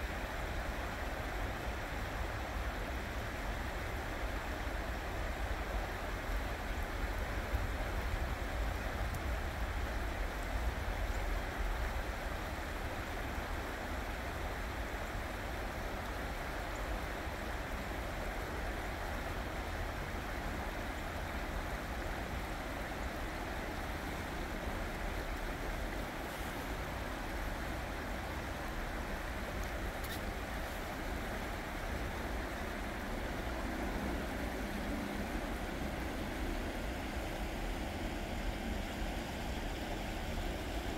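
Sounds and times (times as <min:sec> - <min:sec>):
creek water flowing over rocks: 0:00.0 - 0:40.9.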